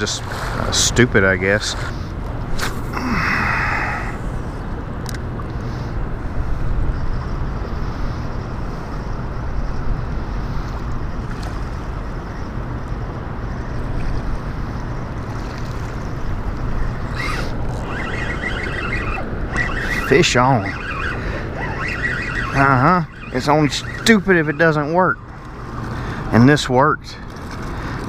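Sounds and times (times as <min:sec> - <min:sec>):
wind rumbling on microphone: 0:00.0 - 0:26.4.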